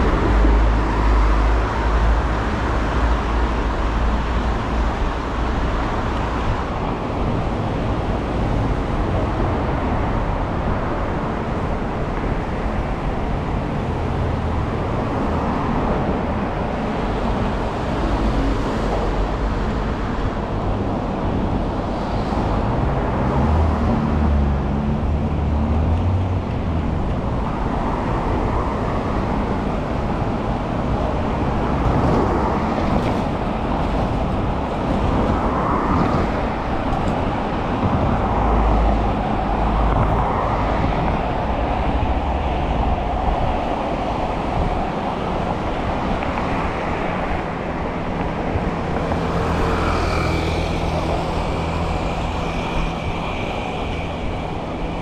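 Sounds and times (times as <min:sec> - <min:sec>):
car engines and tyre noise: 0:00.0 - 0:55.0.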